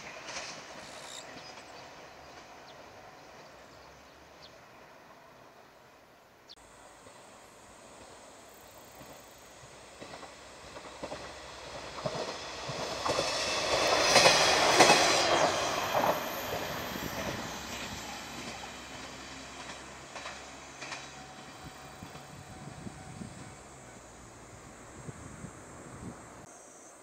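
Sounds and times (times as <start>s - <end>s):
train passing: 0.0s - 26.5s.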